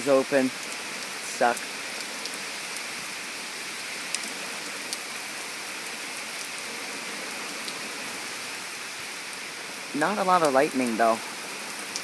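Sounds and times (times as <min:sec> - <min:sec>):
heavy rain pouring: 0:00.0 - 0:12.0
raindrops ticking close by: 0:00.0 - 0:12.0.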